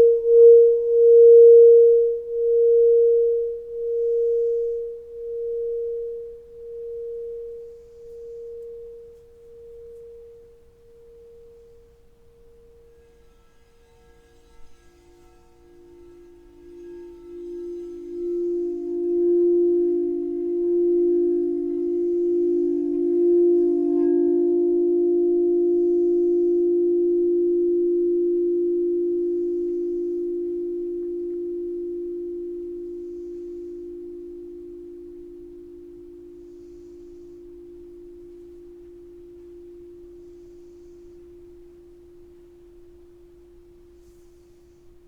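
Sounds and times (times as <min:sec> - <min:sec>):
singing bowl ringing: 0:00.0 - 0:44.8.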